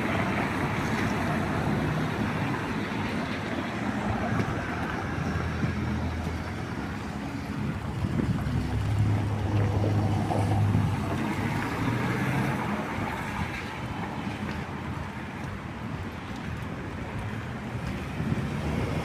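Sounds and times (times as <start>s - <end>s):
vehicle engine hum: 0.0s - 19.0s
wet street noise: 0.0s - 19.0s.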